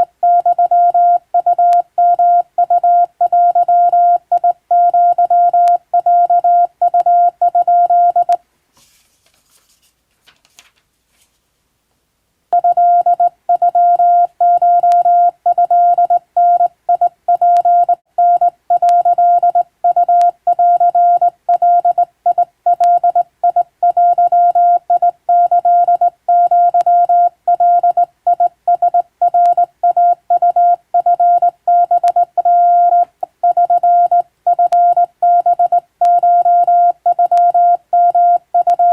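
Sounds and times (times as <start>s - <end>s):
morse code tone: 0.0s - 8.4s, 12.6s - 38.9s.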